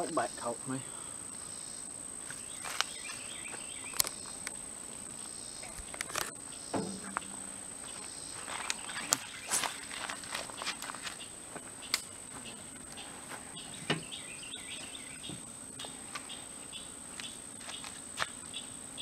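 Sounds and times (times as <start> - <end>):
insects calling: 0.0 - 19.0.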